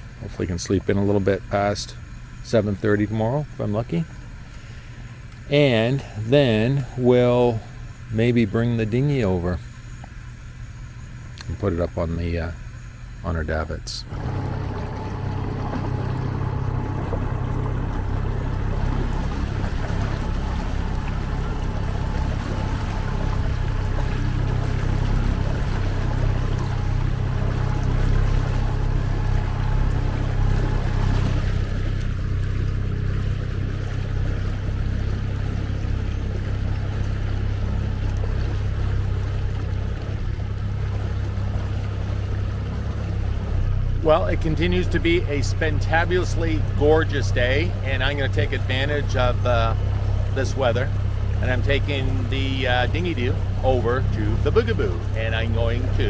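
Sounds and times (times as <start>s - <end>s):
water rushing and splashing: 0.0s - 10.4s, 11.1s - 56.0s
outboard motor running: 0.0s - 56.0s.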